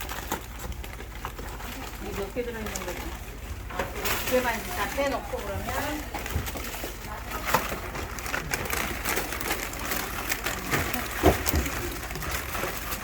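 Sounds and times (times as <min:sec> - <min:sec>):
wrappers crinkling: 0:00.0 - 0:13.0.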